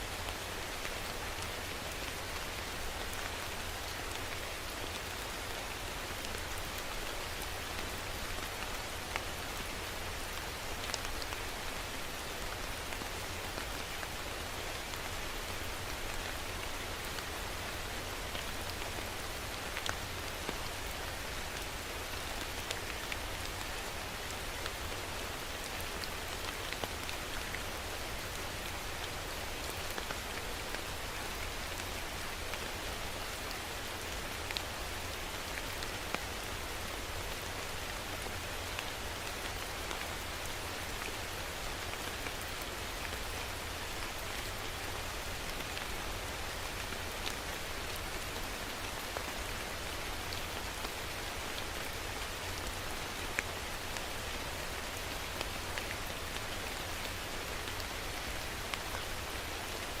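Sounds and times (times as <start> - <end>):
steady rain hiss: 0.0 - 60.0.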